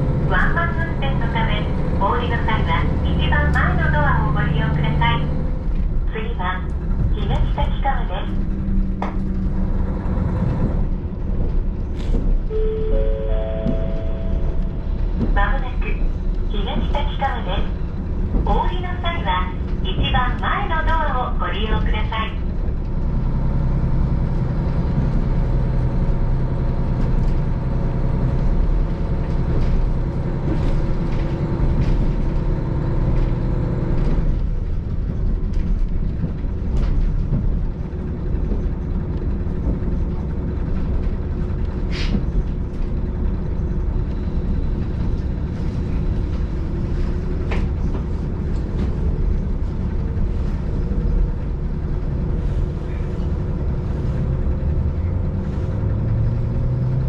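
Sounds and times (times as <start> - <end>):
diesel railcar rumble: 0.0 - 57.0.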